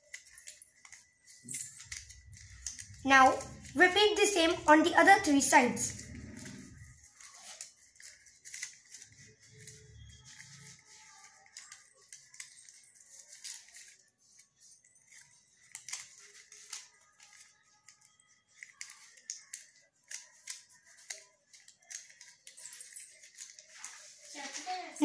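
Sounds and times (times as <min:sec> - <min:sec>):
paper crinkling and rustling: 0:00.0 - 0:25.0.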